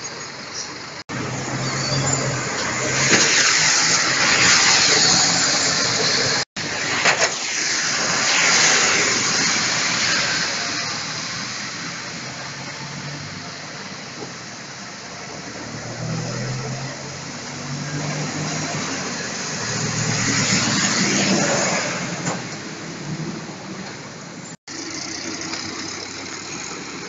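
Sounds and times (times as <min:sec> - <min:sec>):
wet tyres hissing: 0:00.2 - 0:27.0.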